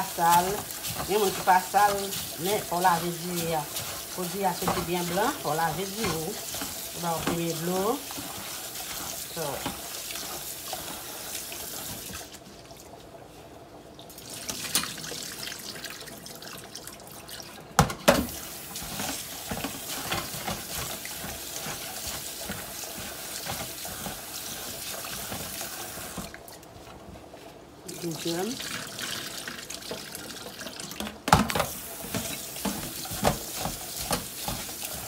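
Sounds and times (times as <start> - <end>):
tap water running into bowl: 0.0 - 13.0, 14.0 - 26.7, 27.9 - 35.0.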